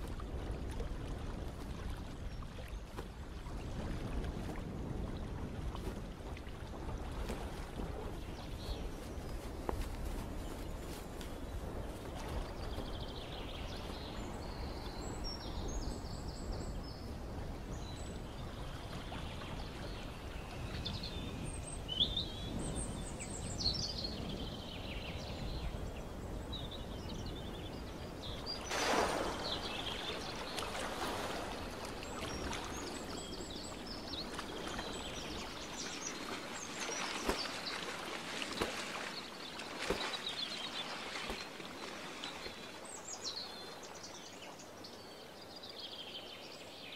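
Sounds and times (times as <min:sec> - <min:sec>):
small birds chirping: 0:07.3 - 0:46.9.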